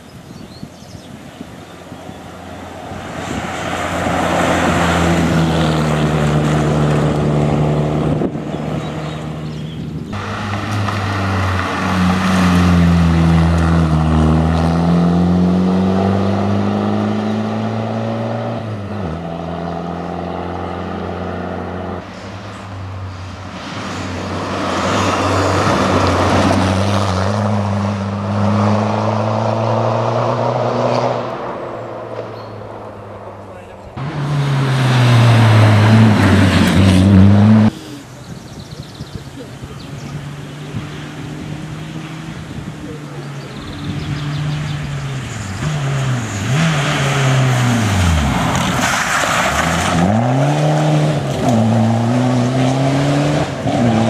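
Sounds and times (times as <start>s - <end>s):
rally car engine revving: 3.4s - 22.6s, 23.5s - 38.1s, 39.2s - 54.0s.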